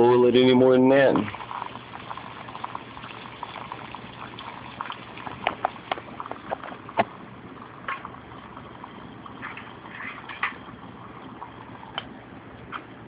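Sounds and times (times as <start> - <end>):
alcohol stove hissing: 0.0 - 12.9
water boiling with pops: 0.0 - 13.0.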